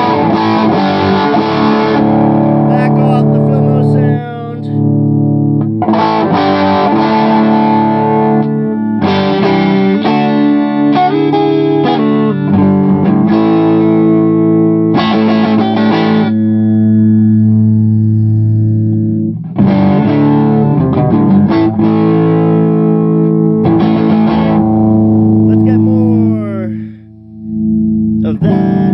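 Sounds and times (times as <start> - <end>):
electric guitar chords: 0.0 - 28.9.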